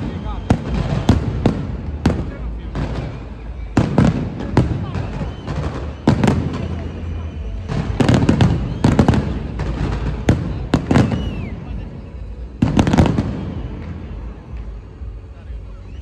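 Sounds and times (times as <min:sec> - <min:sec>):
fireworks bangs: 0:00.0 - 0:15.9.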